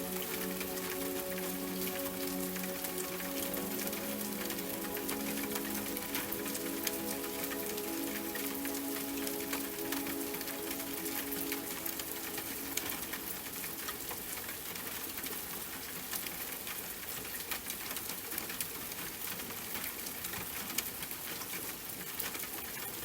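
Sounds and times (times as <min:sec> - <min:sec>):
raindrops ticking on a surface: 0:00.0 - 0:23.0
steady rain hiss: 0:00.0 - 0:23.0.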